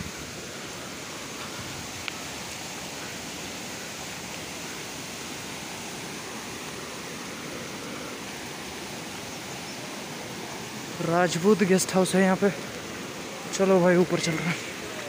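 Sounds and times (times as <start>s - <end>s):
fast-flowing stream rushing: 0.0s - 15.0s.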